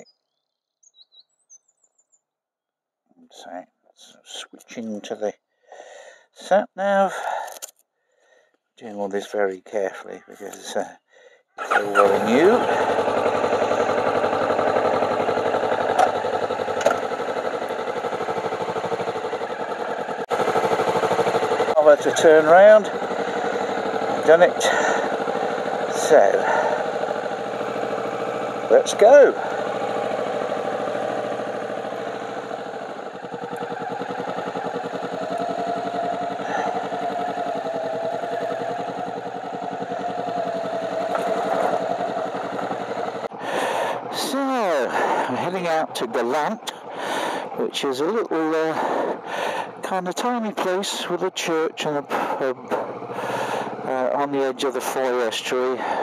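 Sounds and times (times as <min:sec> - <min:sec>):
motorcycle engine idling: 0:11.2 - 0:56.0.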